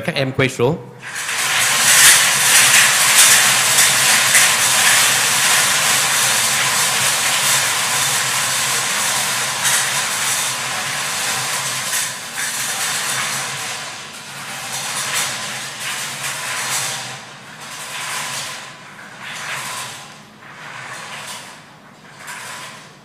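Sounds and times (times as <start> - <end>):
balls rattling in lottery drums: 1.0 - 23.0.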